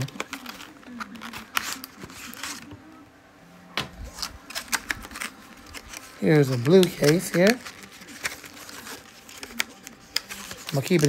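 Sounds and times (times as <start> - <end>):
cardboard box tearing and crackling: 0.0 - 2.7, 4.0 - 11.0.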